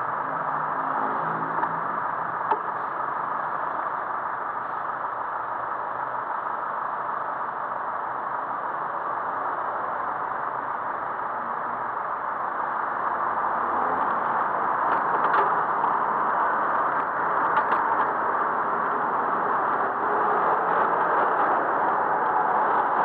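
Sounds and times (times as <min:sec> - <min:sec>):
road and traffic noise: 0:00.0 - 0:23.0.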